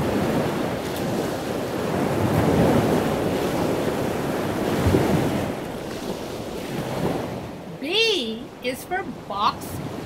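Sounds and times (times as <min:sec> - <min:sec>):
rushing water like surf: 0:00.0 - 0:10.0.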